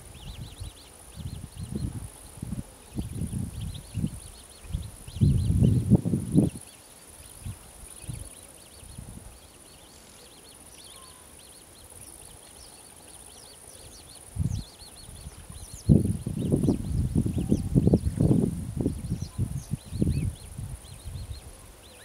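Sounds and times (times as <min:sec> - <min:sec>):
insect hiss: 0:00.0 - 0:22.0.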